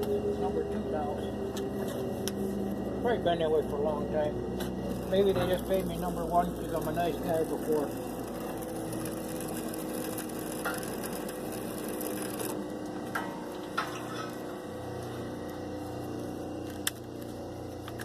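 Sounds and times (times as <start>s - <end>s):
wire stripper mechanical whir: 0.0s - 18.0s.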